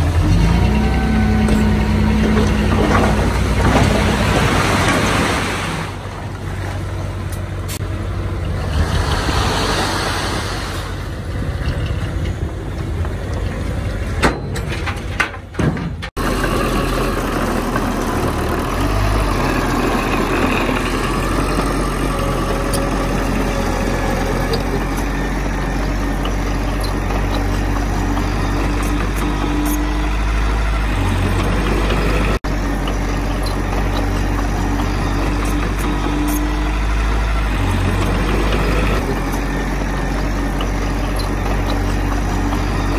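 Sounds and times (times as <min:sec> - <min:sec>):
heavy diesel machinery running: 0:00.0 - 0:42.9
low engine hum: 0:00.0 - 0:42.9.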